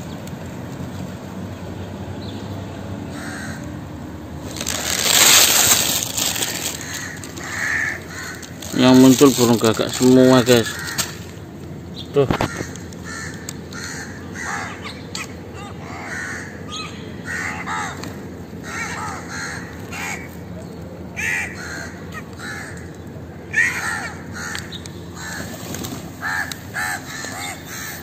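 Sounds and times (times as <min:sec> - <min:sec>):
crows cawing: 0:03.1 - 0:03.8, 0:04.6 - 0:11.4, 0:12.1 - 0:20.4, 0:21.1 - 0:28.0.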